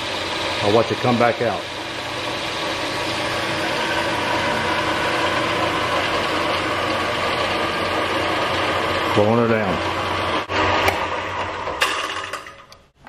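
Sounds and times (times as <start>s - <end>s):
drill press motor humming: 0.0s - 12.7s.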